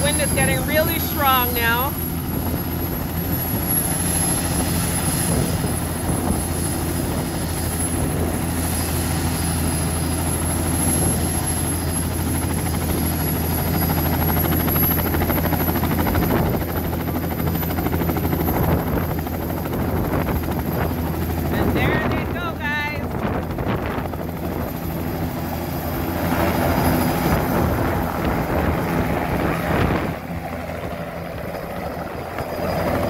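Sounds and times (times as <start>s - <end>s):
helicopter rotors droning: 0.0s - 33.0s
turbine high whine: 0.0s - 33.0s.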